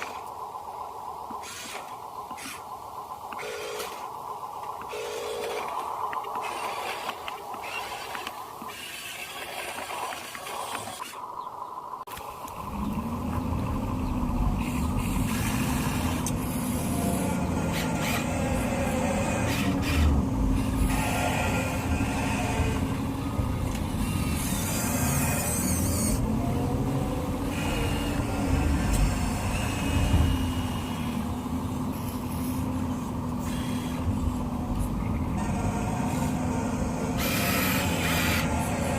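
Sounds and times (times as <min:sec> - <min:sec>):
toy truck motor humming: 0:01.4 - 0:02.6, 0:03.3 - 0:04.1, 0:04.8 - 0:11.2, 0:14.0 - 0:38.9.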